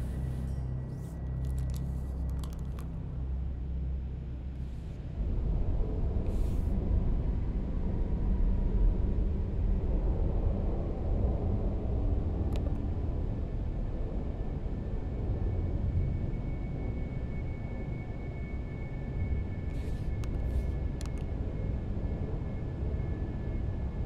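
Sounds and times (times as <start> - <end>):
low rumbling ambient drone: 0.0 - 24.0.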